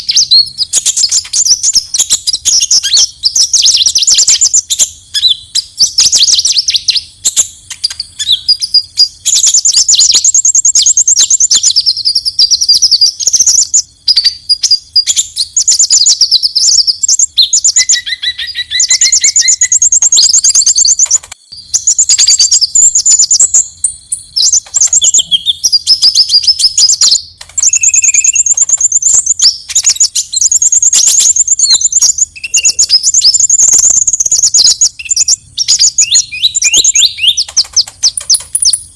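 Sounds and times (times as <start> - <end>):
bird trilling and chattering: 0.0 - 38.9.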